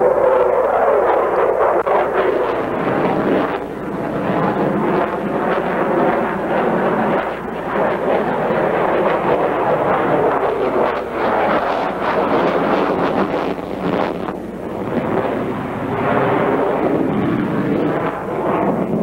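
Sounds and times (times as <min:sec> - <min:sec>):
jet engines rushing overhead: 0:00.0 - 0:19.0.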